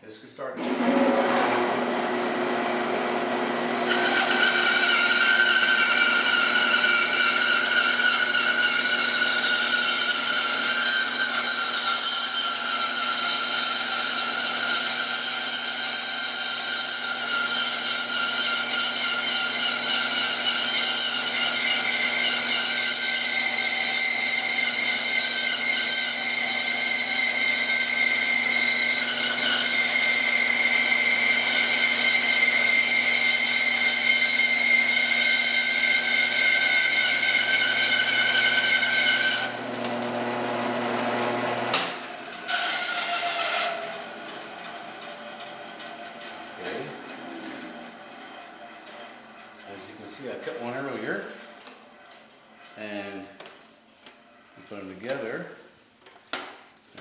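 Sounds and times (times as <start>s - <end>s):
band saw cutting wood: 0.5s - 51.8s.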